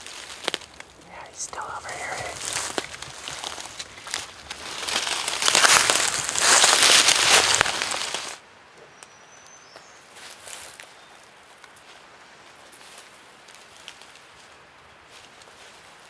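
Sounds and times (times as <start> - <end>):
footsteps crunching through dry leaves: 0.0 - 8.4, 10.1 - 16.0.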